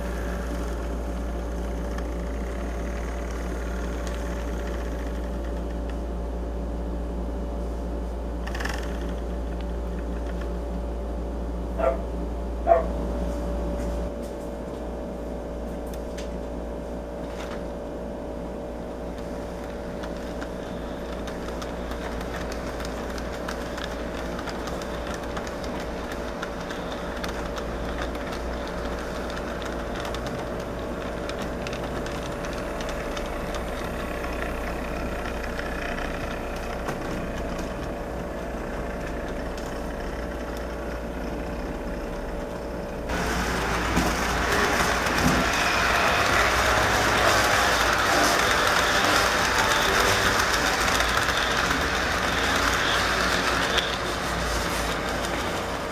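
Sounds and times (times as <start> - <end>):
model train motors whirring: 0.0 - 6.1, 8.4 - 10.5, 19.1 - 55.9.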